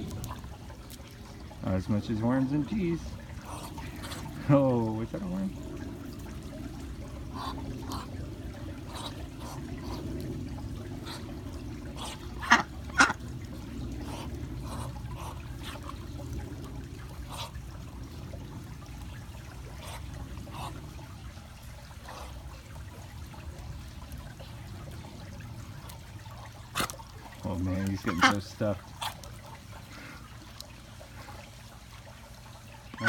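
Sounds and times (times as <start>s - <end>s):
birds pecking: 0.0s - 21.0s, 24.0s - 31.5s
trickling water-like noise: 0.0s - 33.0s.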